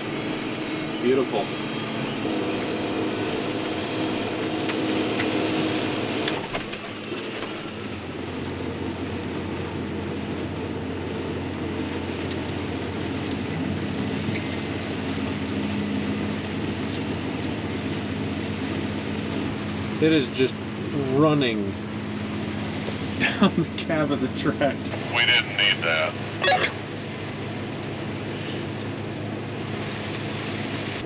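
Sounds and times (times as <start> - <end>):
engine running: 0.0 - 31.0
heavy rain on vehicle cab: 0.0 - 31.0.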